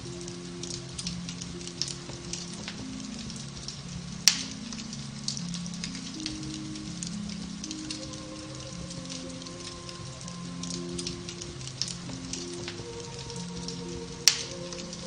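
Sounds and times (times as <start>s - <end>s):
fire crackling and popping: 0.0s - 15.0s
soft piano music: 0.0s - 15.0s.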